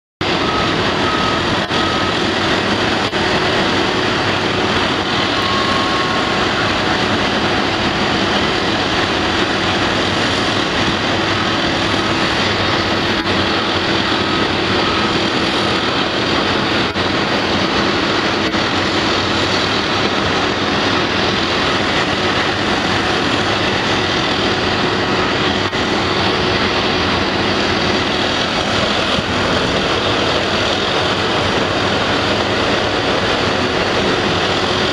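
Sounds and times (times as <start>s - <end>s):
excavator engines running: 0.2s - 34.9s.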